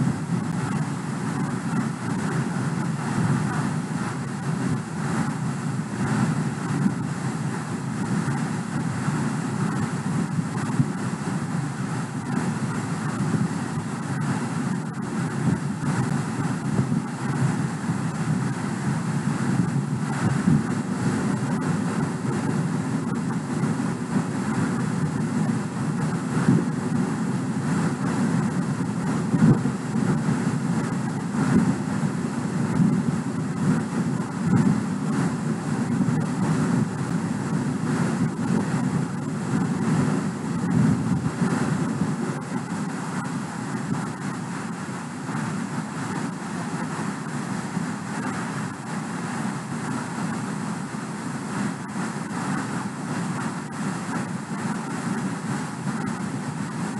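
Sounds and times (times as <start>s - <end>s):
background rumble and hiss: 0.0s - 56.9s.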